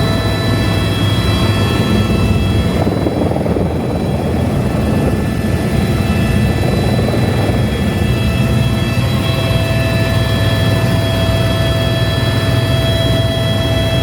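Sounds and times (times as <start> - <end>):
helicopter rotor and engine: 0.0 - 14.0
high whining tones: 0.0 - 14.0.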